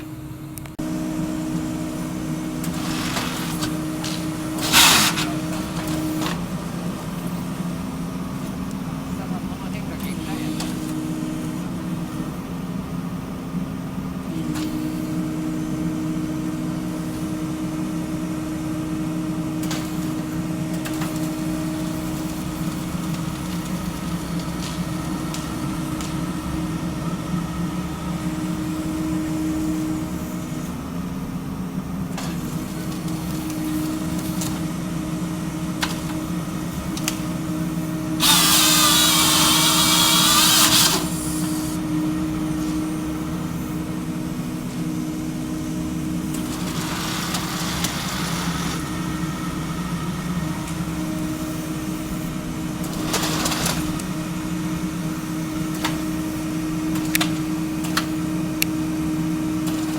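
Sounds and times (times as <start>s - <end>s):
harvester engine drone: 0.0s - 59.9s.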